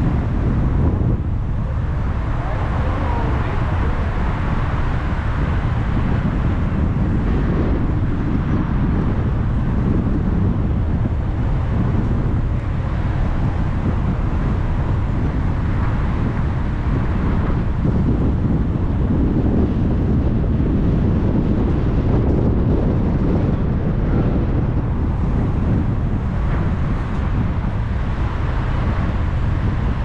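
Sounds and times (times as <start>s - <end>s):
car road noise: 0.0s - 30.0s.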